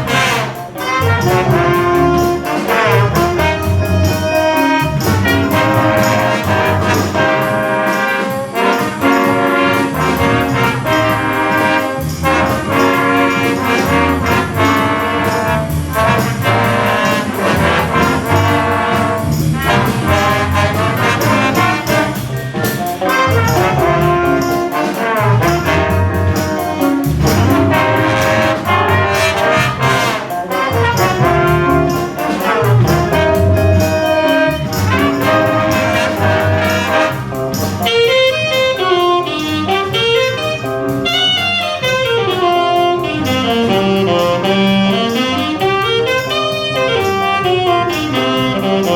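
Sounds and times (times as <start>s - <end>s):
jazz big band playing funk: 0.0s - 48.9s.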